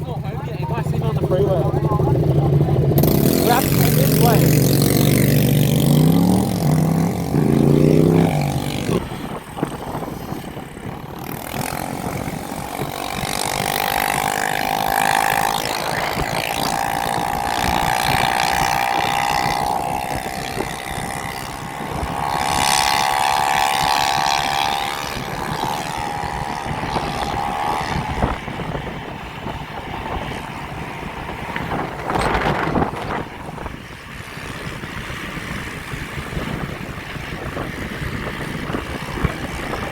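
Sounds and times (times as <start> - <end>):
wind and road noise: 0.0 - 39.9
electric bike motor whining: 0.6 - 39.9.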